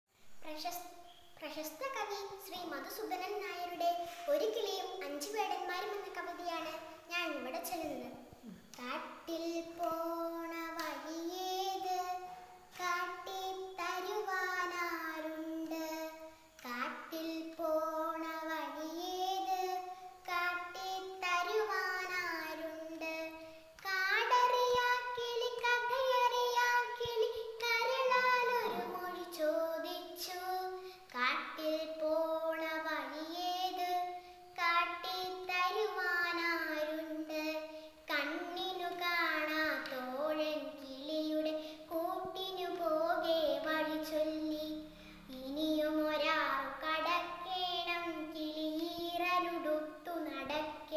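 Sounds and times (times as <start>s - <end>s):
girl singing: 0.2s - 50.9s.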